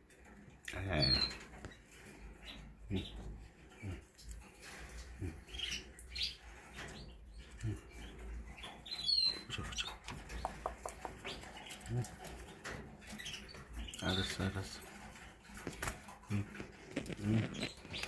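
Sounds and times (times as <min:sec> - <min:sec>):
canaries chirping: 0:00.0 - 0:18.0.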